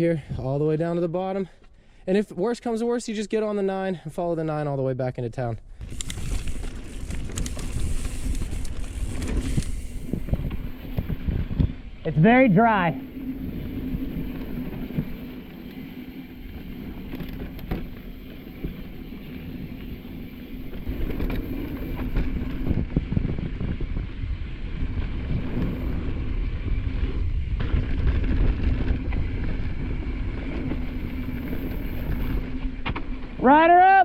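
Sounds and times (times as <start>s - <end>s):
bike tyres on dirt trail: 5.7s - 34.0s
wind rushing over microphone: 5.8s - 33.4s.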